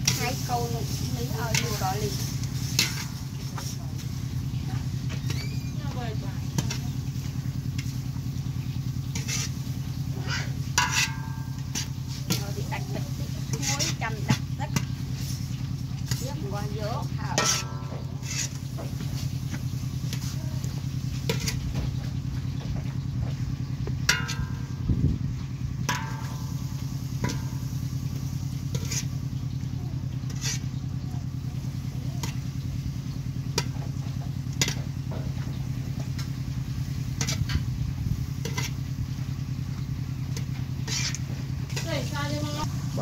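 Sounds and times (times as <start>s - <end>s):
utensils clinking against pots: 0.0s - 24.8s, 25.4s - 43.0s
small engine running: 0.0s - 43.0s.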